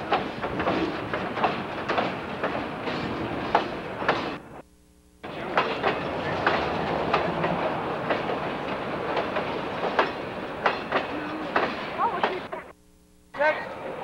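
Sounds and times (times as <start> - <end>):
train wheels clicking and clanking: 0.0 - 4.4, 5.3 - 12.7
train rumble: 0.0 - 4.6, 5.2 - 12.7.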